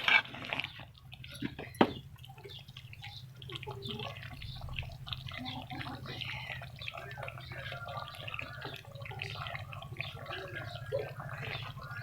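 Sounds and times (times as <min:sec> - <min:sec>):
liquid bubbling and dripping: 0:00.0 - 0:12.0.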